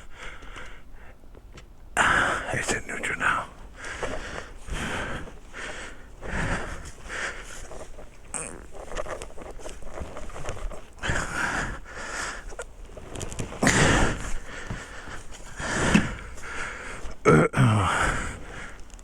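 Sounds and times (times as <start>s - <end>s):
person breathing heavily: 0.0s - 1.2s, 2.0s - 19.0s.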